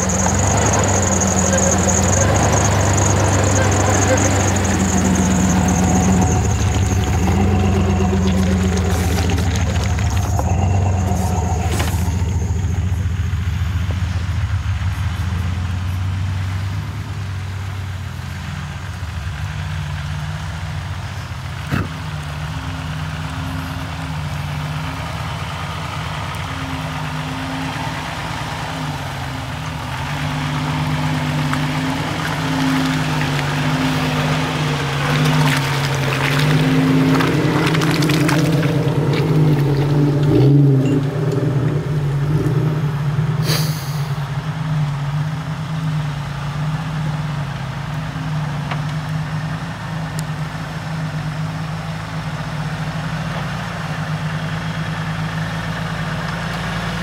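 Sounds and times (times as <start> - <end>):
engine idling hum: 0.0 - 57.0
engine revving while driving: 0.0 - 57.0.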